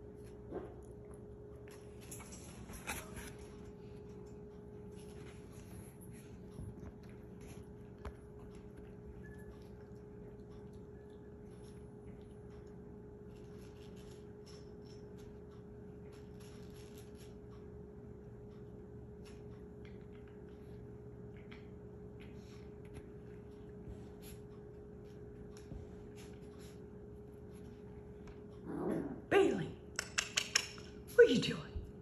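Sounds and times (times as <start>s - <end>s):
faint steady hum: 0.0s - 32.0s
light ticks and rustles: 0.1s - 28.6s.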